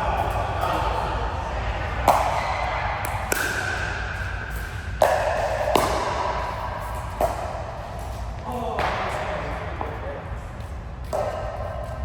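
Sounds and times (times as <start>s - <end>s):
ball hits ringing in a hall: 0.0s - 12.0s.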